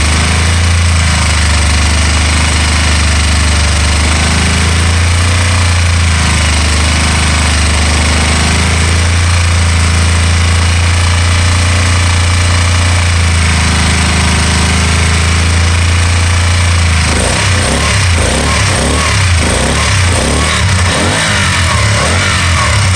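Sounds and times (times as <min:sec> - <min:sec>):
engine idling and misfiring: 0:00.0 - 0:22.9.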